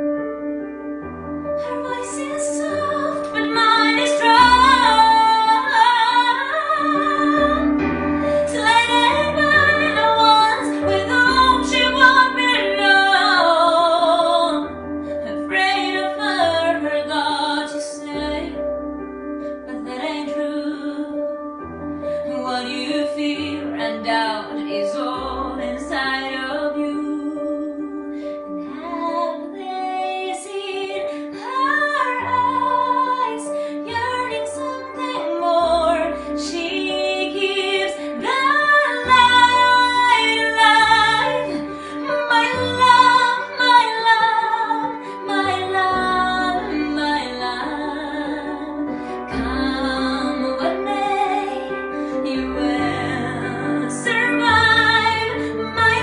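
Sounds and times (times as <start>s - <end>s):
piano chords and bass notes: 0.0s - 56.0s
woman singing a slow ballad: 1.6s - 18.6s, 19.7s - 21.3s, 22.3s - 56.0s.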